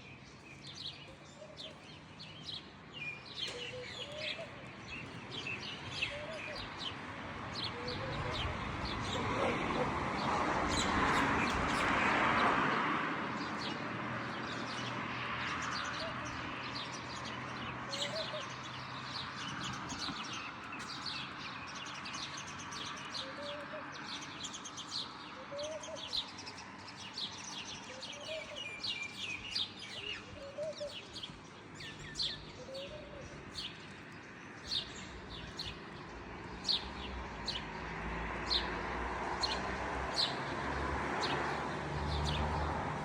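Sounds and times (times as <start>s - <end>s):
small songbirds chirping: 0.0s - 9.3s, 13.4s - 43.0s.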